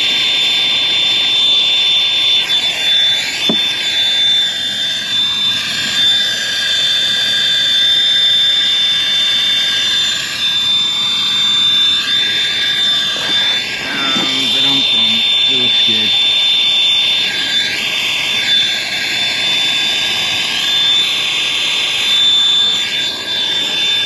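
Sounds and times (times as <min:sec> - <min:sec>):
thin high whistle: 0:00.0 - 0:24.0.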